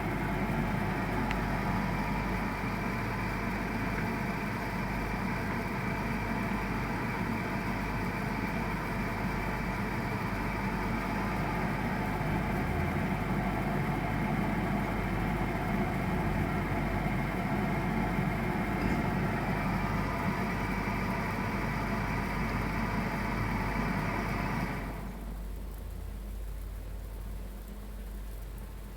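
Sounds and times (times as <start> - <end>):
gas boiler humming: 0.0 - 28.9.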